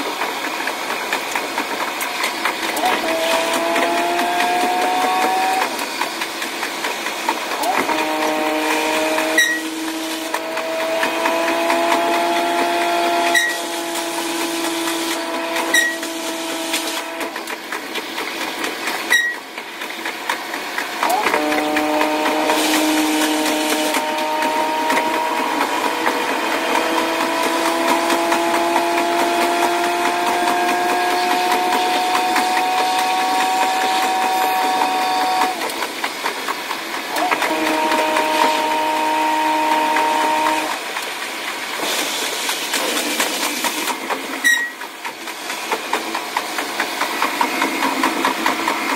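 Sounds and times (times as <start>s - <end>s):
sped-up railcar engine hum: 0.0s - 48.9s.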